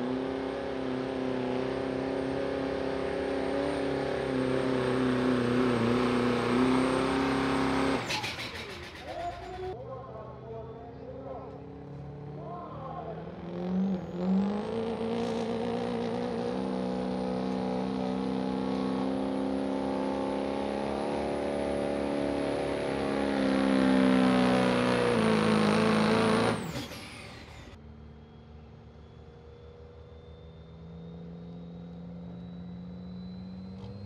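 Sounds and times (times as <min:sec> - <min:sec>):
truck engine revving: 0:00.0 - 0:09.8, 0:11.6 - 0:34.0.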